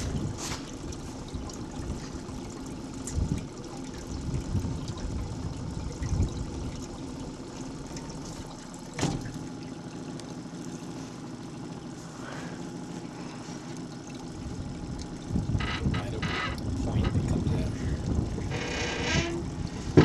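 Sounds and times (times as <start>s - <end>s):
low steady rumble: 0.0s - 20.0s
water sloshing against hull: 0.0s - 20.0s.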